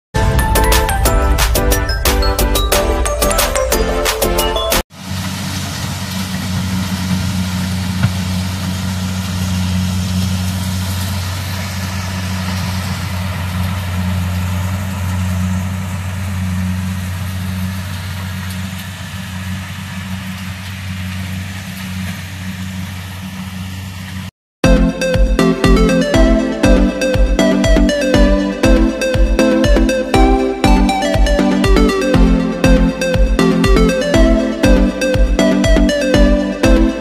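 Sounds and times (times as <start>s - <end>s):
combine harvester engine droning: 0.2s - 37.0s.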